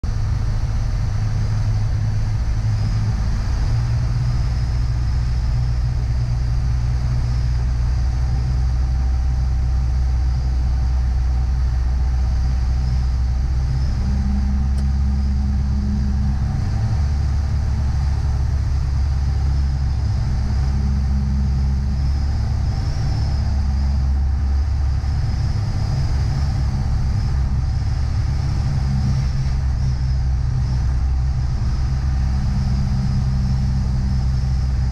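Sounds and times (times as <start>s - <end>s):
propeller plane engine droning: 0.0s - 34.9s.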